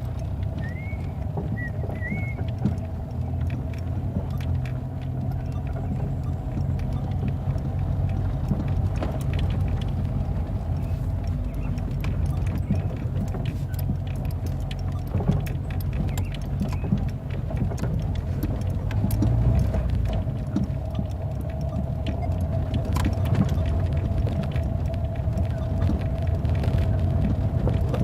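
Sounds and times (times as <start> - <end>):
car engine and road rumble: 0.0 - 28.0
small rattles and clicks: 0.0 - 28.0.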